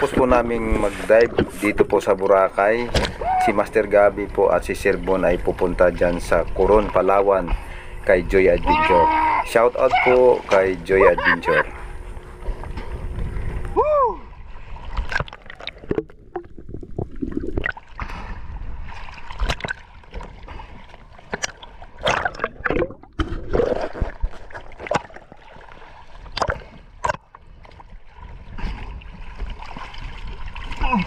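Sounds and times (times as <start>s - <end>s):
sea water sloshing and splashing: 0.0s - 31.0s
water gurgling: 0.0s - 31.0s.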